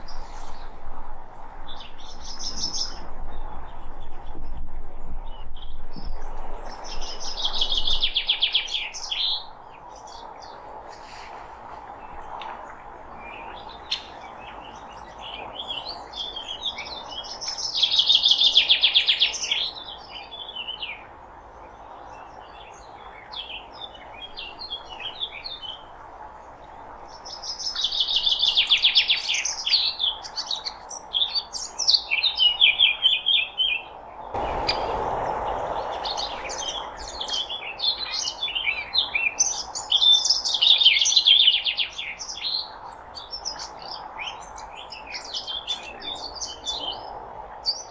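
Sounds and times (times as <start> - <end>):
songbirds trilling and chirping: 0.0 - 47.9.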